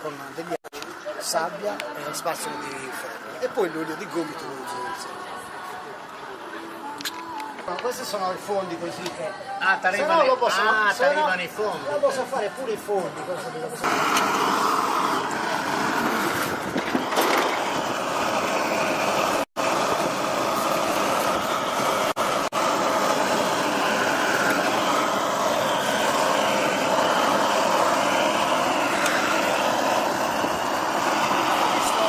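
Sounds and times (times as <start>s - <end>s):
gas burner hissing: 0.0s - 13.0s, 13.8s - 32.0s.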